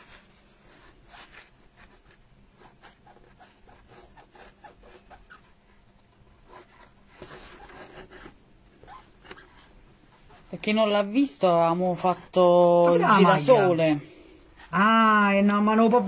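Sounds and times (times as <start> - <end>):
tool scratching foam: 0.0 - 13.7.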